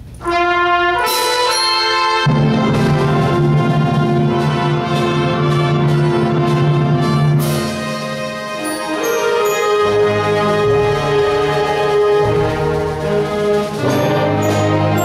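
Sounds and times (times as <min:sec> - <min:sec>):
concert band playing chords: 0:00.2 - 0:15.0.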